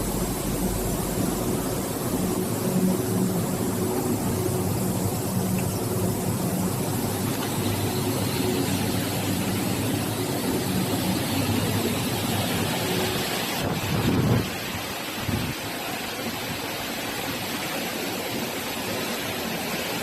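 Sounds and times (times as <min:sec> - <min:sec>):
dryer low hum: 0:00.0 - 0:17.6.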